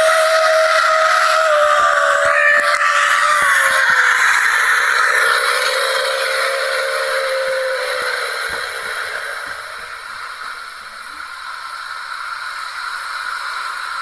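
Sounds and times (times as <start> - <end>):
hissing wash of noise: 0.0 - 14.0
whine falling in pitch: 0.0 - 14.0.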